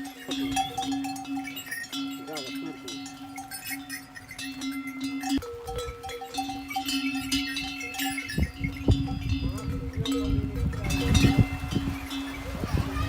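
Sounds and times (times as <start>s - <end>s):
livestock bells clinking: 0.0s - 13.0s.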